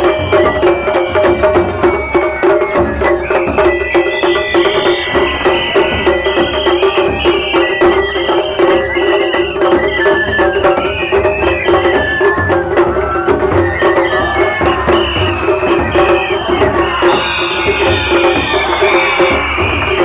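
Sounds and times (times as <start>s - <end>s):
clacking percussion: 0.0s - 20.0s
continuous drumming: 0.0s - 20.0s
high flute melody: 0.0s - 20.0s.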